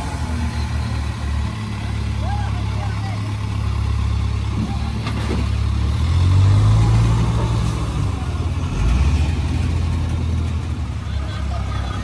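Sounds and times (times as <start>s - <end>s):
diesel truck engine labouring: 0.0s - 12.0s.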